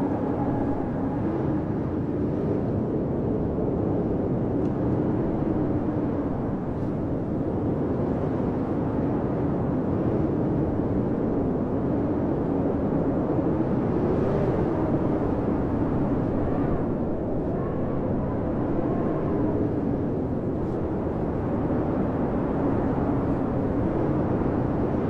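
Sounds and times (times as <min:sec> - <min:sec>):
howling blizzard wind: 0:00.0 - 0:25.0.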